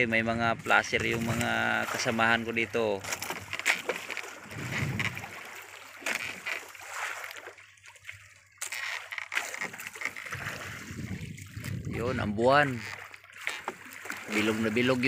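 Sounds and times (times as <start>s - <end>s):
water splashing against boat hull: 0.3s - 15.0s.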